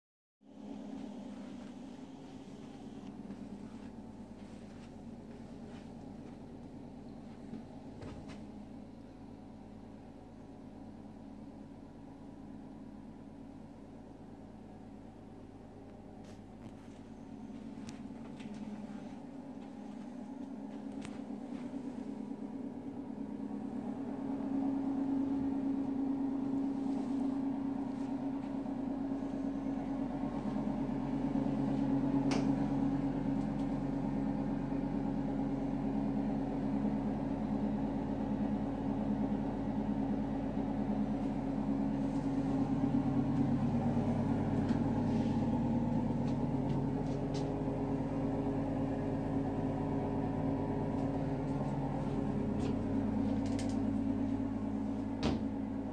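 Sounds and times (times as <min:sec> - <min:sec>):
engine humming: 0:00.5 - 0:55.9.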